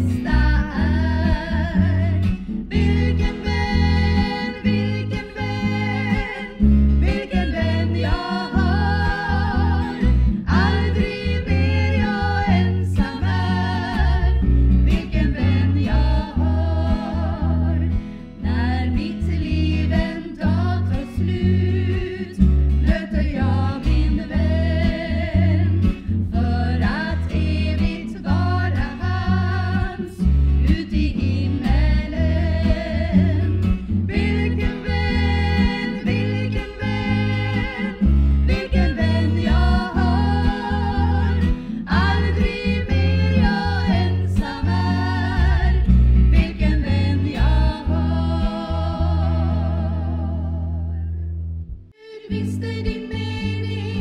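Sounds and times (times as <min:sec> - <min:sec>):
women singing together: 0:00.0 - 0:51.1, 0:52.0 - 0:54.0
acoustic guitar: 0:00.0 - 0:54.0.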